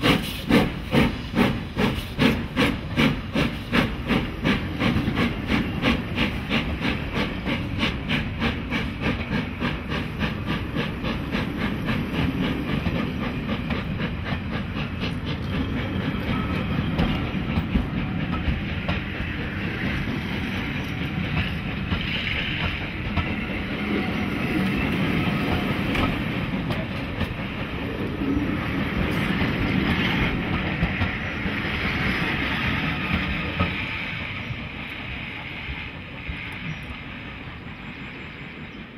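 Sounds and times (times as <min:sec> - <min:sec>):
steam locomotive exhaust beats: 0:00.0 - 0:38.9
train wheels rumbling: 0:00.0 - 0:38.9.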